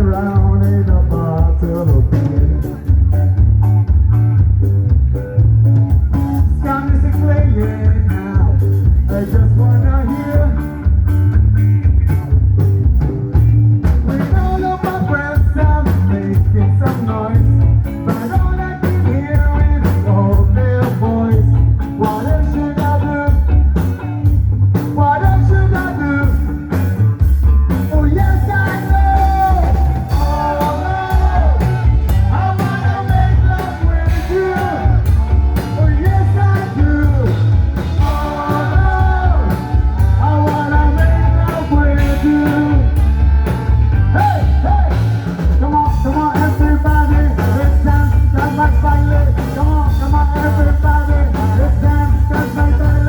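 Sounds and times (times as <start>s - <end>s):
person singing: 0.0s - 3.4s, 6.1s - 10.8s, 13.9s - 24.0s, 27.7s - 53.0s
rock band playing: 0.0s - 53.0s.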